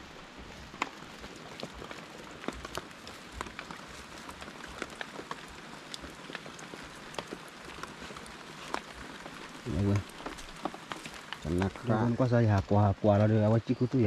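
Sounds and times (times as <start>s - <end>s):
rain on leaves and ground: 0.0s - 14.0s.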